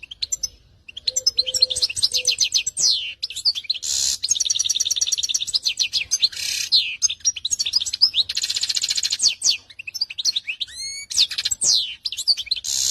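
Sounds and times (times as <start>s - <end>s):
canary singing: 0.0s - 12.9s.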